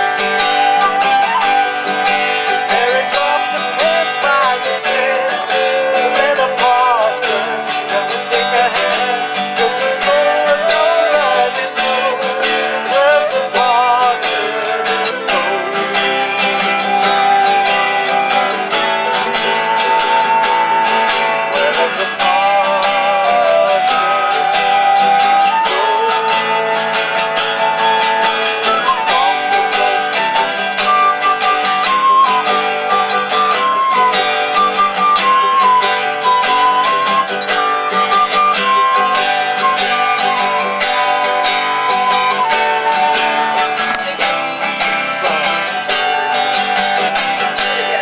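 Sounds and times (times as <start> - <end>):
acoustic guitar strumming: 0.0 - 48.0
flute melody: 0.0 - 48.0.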